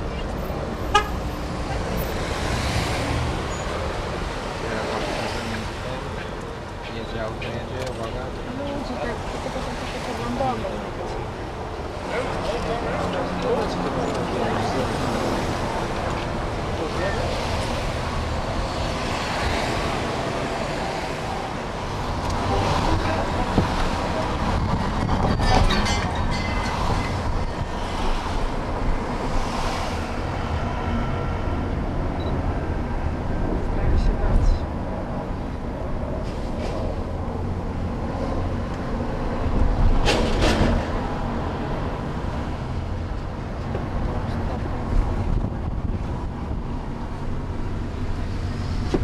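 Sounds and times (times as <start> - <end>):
cars going by: 0.0 - 49.0.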